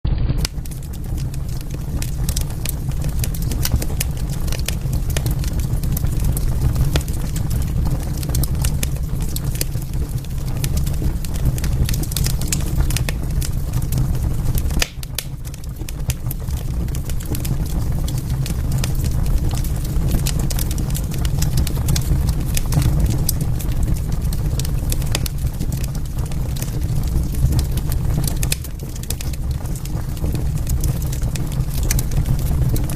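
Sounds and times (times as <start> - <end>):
wood fire crackling: 0.1 - 32.9.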